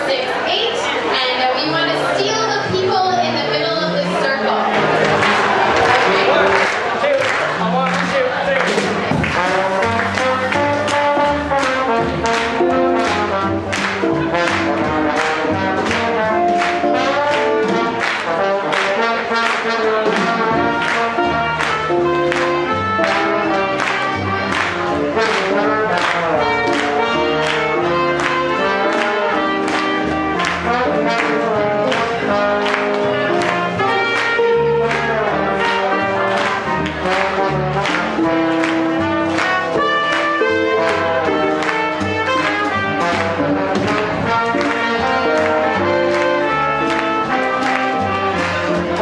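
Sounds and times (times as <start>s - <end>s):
swing jazz band playing: 0.0s - 49.0s
trumpet: 0.9s - 49.0s
trombone: 1.1s - 49.0s.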